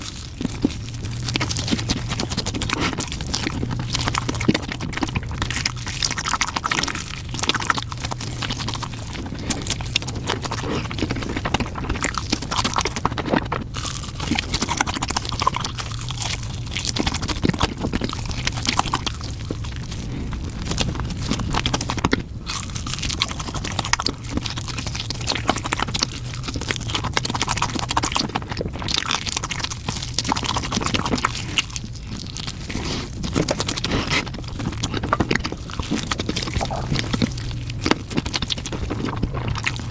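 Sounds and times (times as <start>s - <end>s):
chewing and biting crackles: 0.0s - 39.9s
steady low hum: 0.0s - 39.9s.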